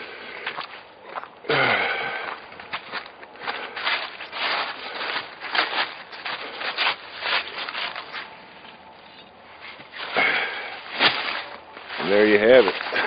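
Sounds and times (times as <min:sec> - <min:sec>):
footsteps on dry leaves: 0:00.0 - 0:13.0
rustling shuffle in leaves: 0:00.0 - 0:13.0.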